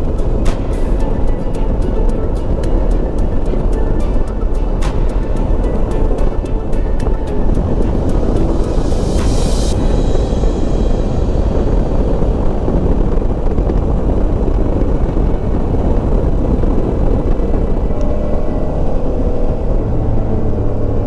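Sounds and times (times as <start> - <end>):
rushing air: 0.0 - 17.3.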